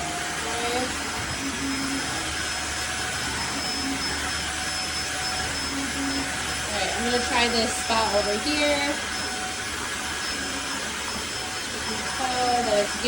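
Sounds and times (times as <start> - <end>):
floor cleaner motor whir: 0.0 - 13.0.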